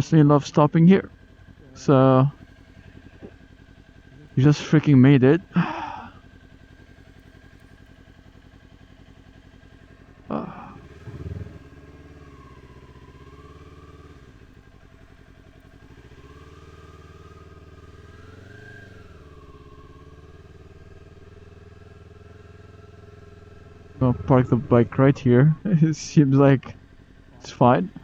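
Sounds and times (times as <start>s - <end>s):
motorcycle engine running at low revs: 0.0s - 28.0s.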